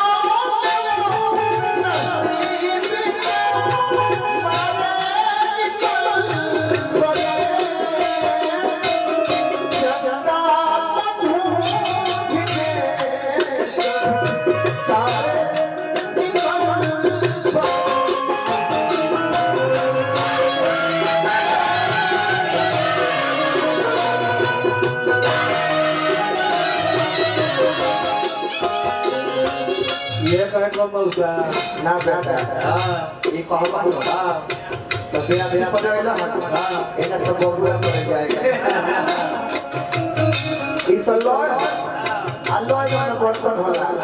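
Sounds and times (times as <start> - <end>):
man singing into a microphone: 0.0 - 40.0, 40.6 - 44.0
drum: 0.0 - 44.0
rattling percussion: 0.0 - 44.0.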